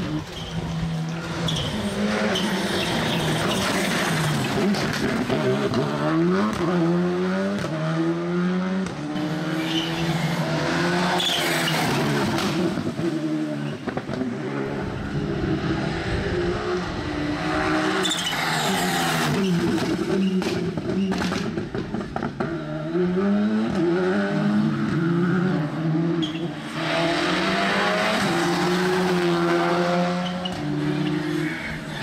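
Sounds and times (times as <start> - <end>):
rally car engines revving past: 0.0 - 32.0.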